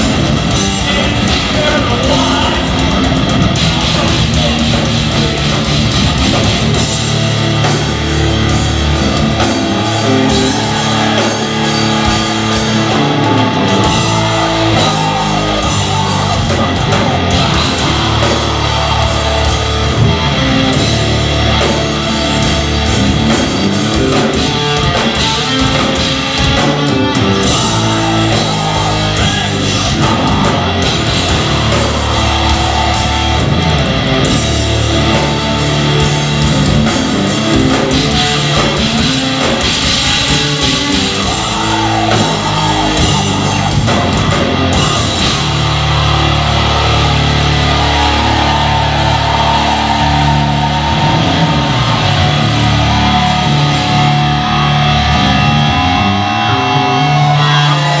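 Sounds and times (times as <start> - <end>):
bass guitar: 0.0 - 58.0
distorted electric guitars: 0.0 - 58.0
drum kit: 0.0 - 58.0.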